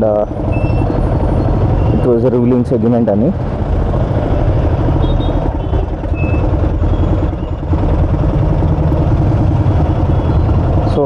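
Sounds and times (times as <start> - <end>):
road noise: 0.0 - 11.0
vehicle engine rumbling: 0.0 - 11.0.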